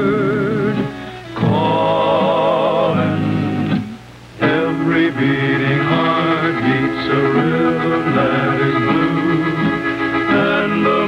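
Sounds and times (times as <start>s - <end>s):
string band playing country music: 0.0s - 11.0s
men singing along: 1.4s - 11.0s.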